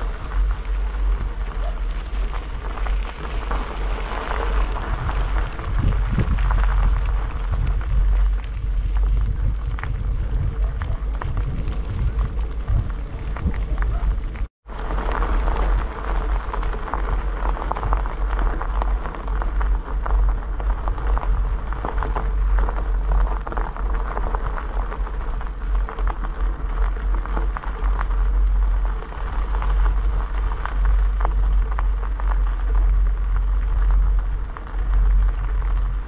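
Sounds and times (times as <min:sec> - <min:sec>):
bicycle tyres rolling over gravel: 0:00.0 - 0:36.0
wind rumble on microphone: 0:00.0 - 0:36.0.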